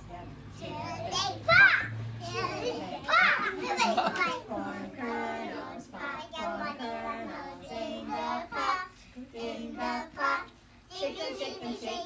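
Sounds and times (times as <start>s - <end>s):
children singing: 0.6s - 12.0s.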